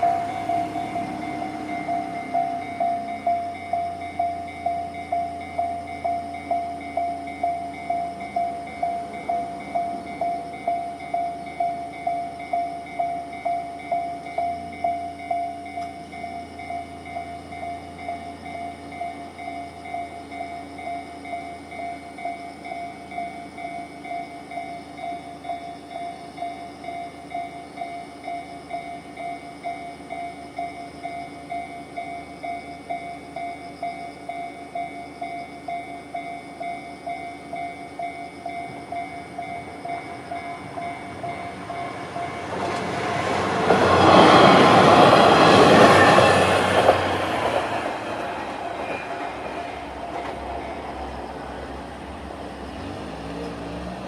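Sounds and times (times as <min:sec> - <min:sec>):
diesel railcar engine: 0:00.0 - 0:54.0
level crossing warning bell: 0:00.0 - 0:54.0
train wheels on rails: 0:00.0 - 0:54.0.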